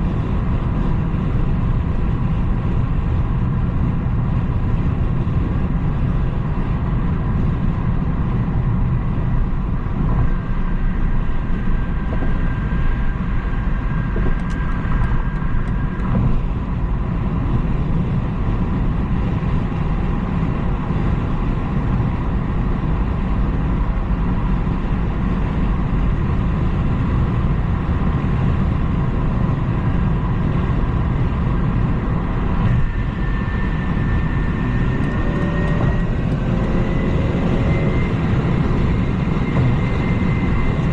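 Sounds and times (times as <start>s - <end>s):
car engine hum: 0.0s - 40.9s
road and tyre rumble: 0.0s - 40.9s.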